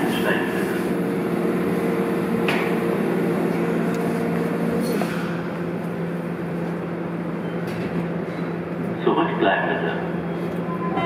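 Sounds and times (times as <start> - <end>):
train equipment multi-tone hum: 0.0 - 11.0.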